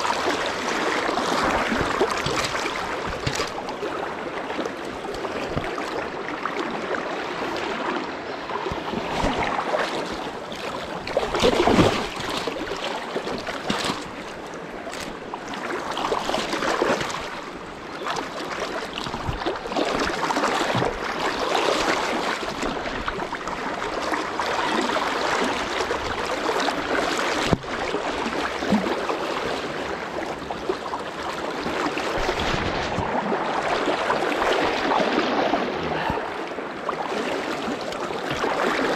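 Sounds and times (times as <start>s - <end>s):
river rushing: 0.0s - 18.7s, 19.6s - 38.9s.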